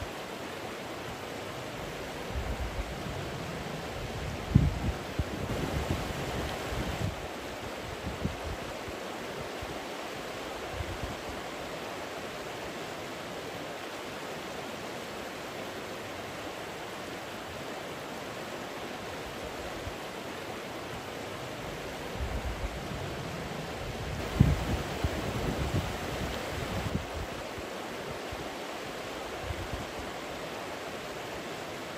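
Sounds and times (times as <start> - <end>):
flowing water rushing: 0.0 - 31.9.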